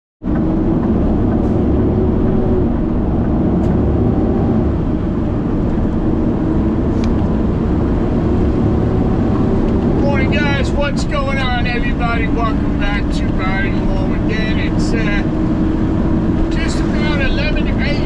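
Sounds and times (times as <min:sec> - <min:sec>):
road noise: 0:00.2 - 0:18.0
truck diesel engine drone: 0:00.2 - 0:18.0.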